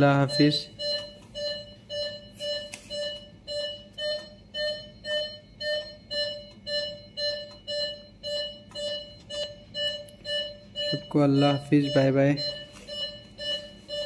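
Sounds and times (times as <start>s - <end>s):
patient monitor beeps: 0.0s - 14.0s.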